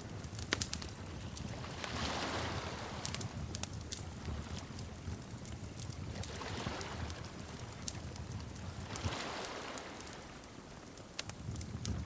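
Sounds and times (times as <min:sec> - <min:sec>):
low rumble of burning: 0:00.0 - 0:12.0
wood fire crackling: 0:00.0 - 0:12.0.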